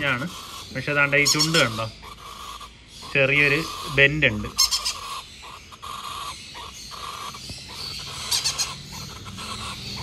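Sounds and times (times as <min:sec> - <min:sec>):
parrot chick squeaking: 0:00.0 - 0:10.0.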